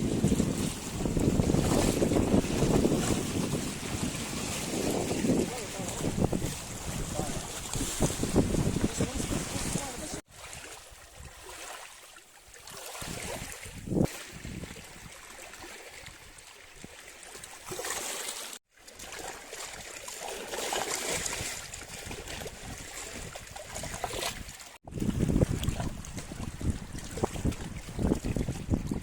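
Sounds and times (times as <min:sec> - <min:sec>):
sea waves washing and splashing: 0:00.0 - 0:29.0.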